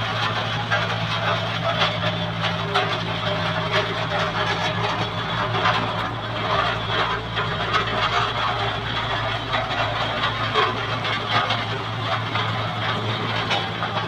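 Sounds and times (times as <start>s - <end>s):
construction machinery engine humming: 0.0s - 14.0s.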